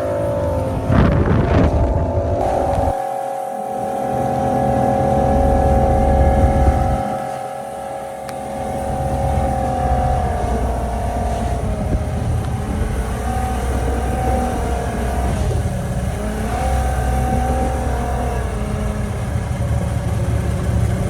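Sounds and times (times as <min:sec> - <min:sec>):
boat engine running: 0:00.0 - 0:21.0
wind rumbling on microphone: 0:00.0 - 0:21.0.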